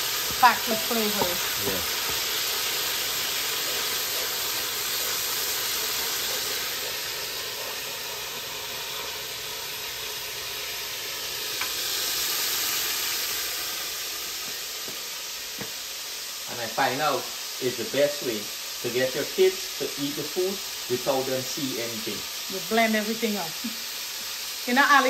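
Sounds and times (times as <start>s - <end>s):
seasoning sizzling in a pan: 0.0s - 25.0s.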